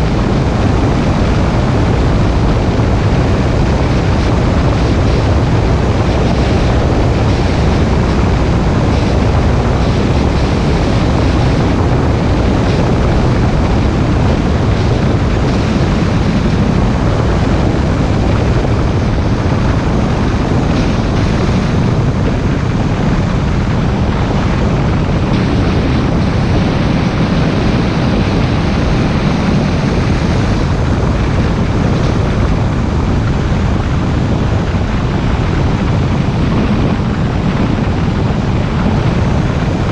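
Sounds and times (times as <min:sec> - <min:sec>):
wind and tyre noise: 0:00.0 - 0:39.9
wind buffeting microphone: 0:00.0 - 0:39.9.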